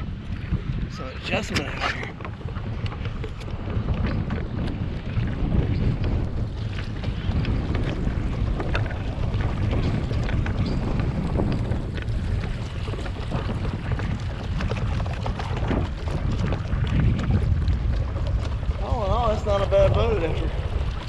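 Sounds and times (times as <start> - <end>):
water splashing and lapping: 0.0 - 21.0
wind rumbling on microphone: 0.0 - 21.0.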